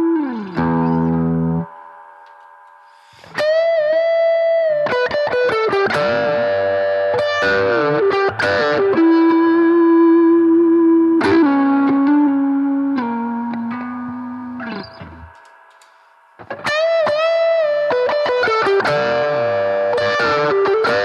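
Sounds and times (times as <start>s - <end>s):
electric guitar playing: 0.0s - 21.0s.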